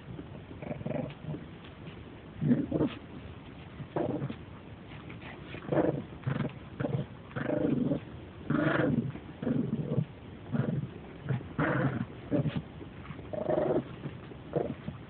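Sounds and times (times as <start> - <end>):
dog growling playfully: 0.3 - 1.6, 2.3 - 3.2, 3.8 - 4.4, 5.2 - 15.0.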